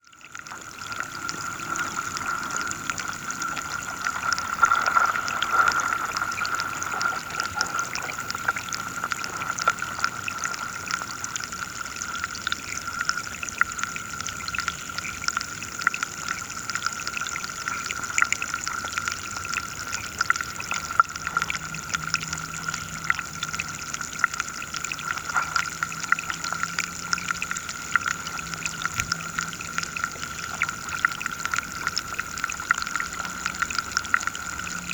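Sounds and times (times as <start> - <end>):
underwater crackling and ticking: 0.0 - 34.9
hiss of moving water: 0.4 - 34.9.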